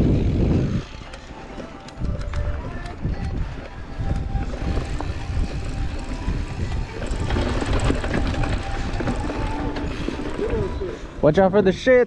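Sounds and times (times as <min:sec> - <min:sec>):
wind buffeting microphone: 0:00.0 - 0:01.1, 0:01.9 - 0:11.8
bike tyre and frame rattle: 0:00.0 - 0:11.8.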